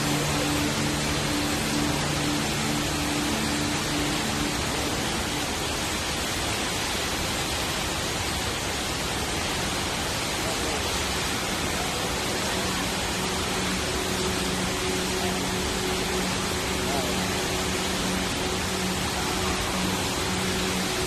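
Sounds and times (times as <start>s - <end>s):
indoor waterfall rushing: 0.0s - 21.0s.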